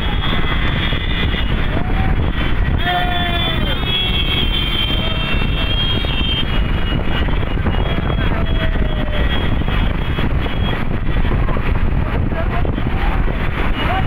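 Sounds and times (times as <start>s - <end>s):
motorcycles and scooters running: 0.0s - 14.0s.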